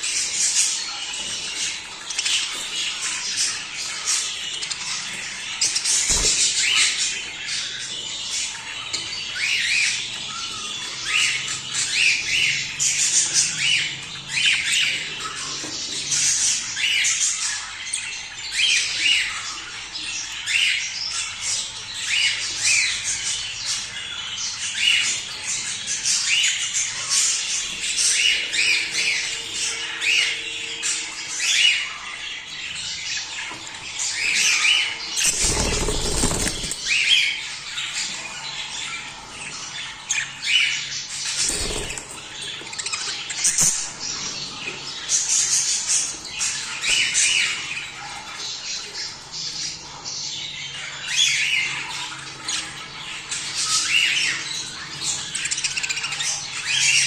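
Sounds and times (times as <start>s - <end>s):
budgerigars chirping: 0.0s - 57.0s.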